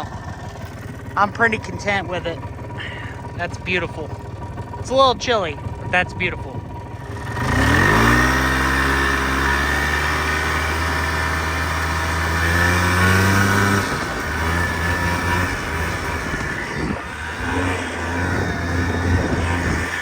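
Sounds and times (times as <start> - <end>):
atv engine: 0.0 - 20.0.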